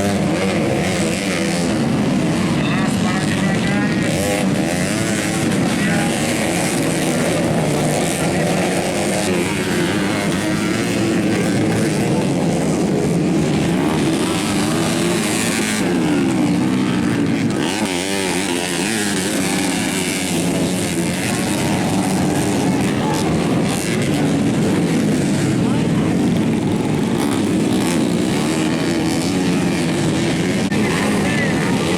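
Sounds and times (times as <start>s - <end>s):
motorcycle engines revving: 0.0s - 31.9s.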